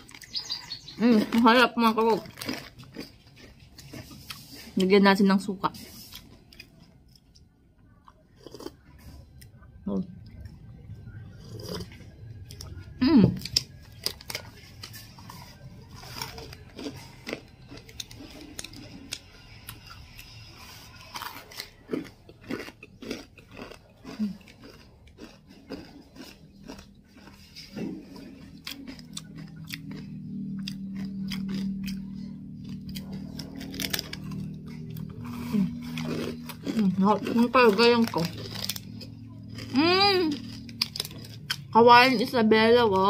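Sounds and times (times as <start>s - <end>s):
person chewing crunchy food: 0.0s - 43.0s
steady low hum: 0.0s - 43.0s.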